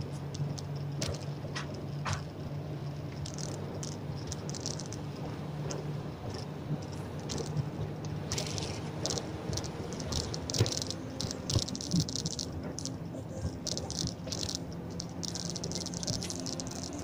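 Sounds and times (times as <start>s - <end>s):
bus engine drone: 0.0s - 17.0s
clicks and rattles from bus body: 0.0s - 17.0s.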